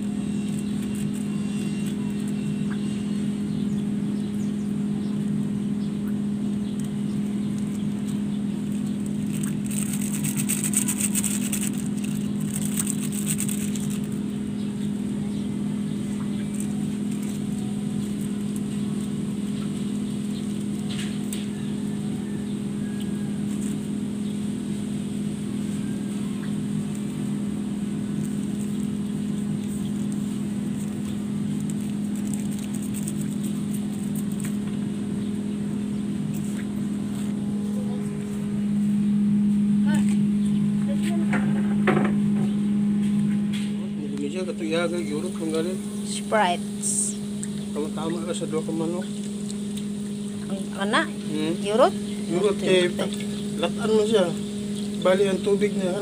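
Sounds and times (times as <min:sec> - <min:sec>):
motor humming: 0:00.0 - 0:56.0.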